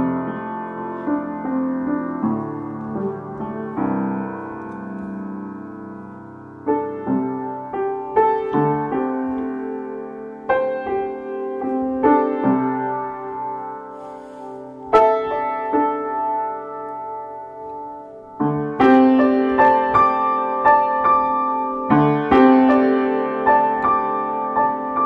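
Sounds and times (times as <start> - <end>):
solo piano chords: 0.0 - 25.0.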